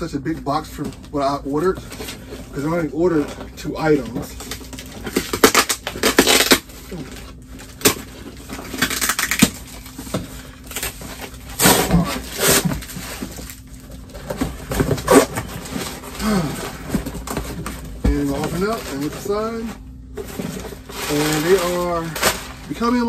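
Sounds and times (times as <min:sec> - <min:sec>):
cardboard tearing and rustling: 0:00.5 - 0:23.0.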